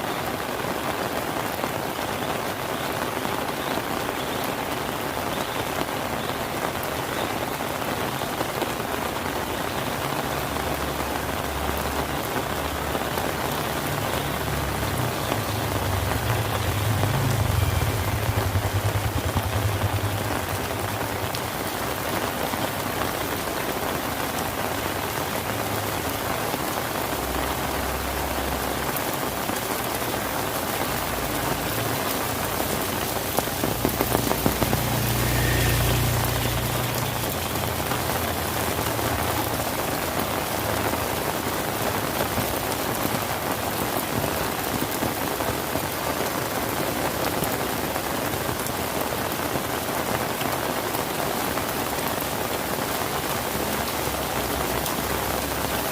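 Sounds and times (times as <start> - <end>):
rain hissing: 0.0 - 55.9.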